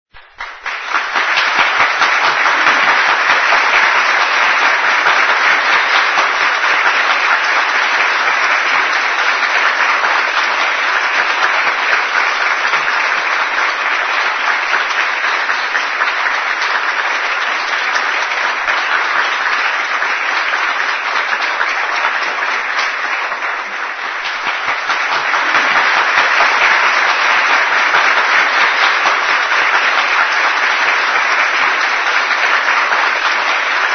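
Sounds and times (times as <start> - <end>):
audience applauding: 0.1 - 33.9.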